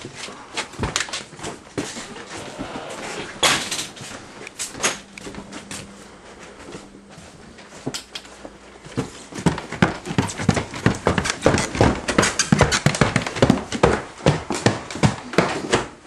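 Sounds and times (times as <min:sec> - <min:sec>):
heavy footsteps down a staircase: 0:00.0 - 0:16.0.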